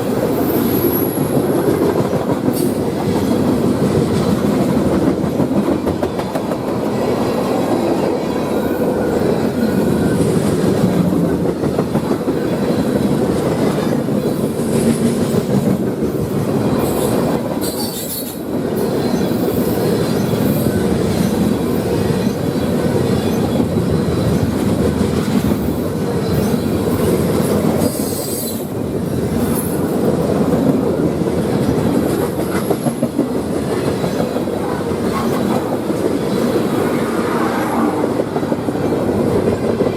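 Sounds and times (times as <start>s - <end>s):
freight train wheels clicking: 0.0s - 39.9s.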